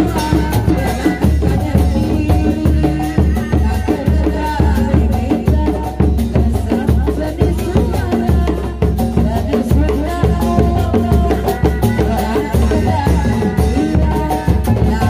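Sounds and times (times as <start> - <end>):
large drum beaten with stick: 0.0 - 15.0.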